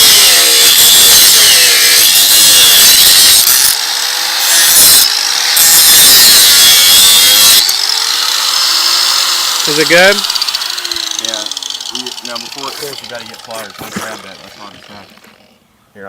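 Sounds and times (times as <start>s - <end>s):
angle grinder cutting metal: 0.0s - 15.6s.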